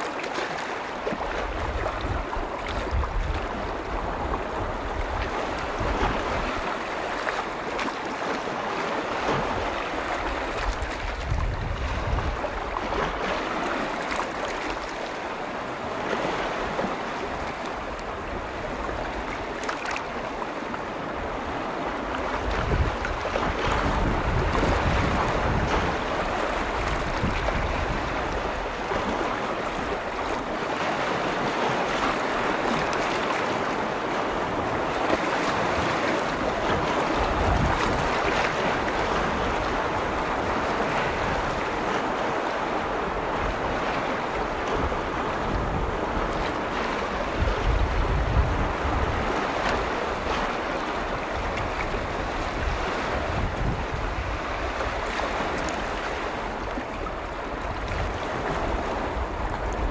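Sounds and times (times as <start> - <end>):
lake waves washing in: 0.0 - 59.9
wind rumbling on microphone: 0.0 - 59.9.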